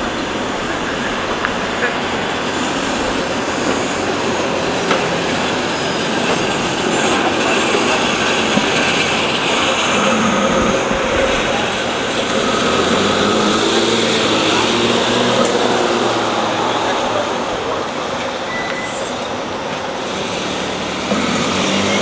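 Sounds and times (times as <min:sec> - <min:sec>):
bus diesel engine droning: 0:00.0 - 0:22.0
passing car traffic: 0:00.0 - 0:22.0.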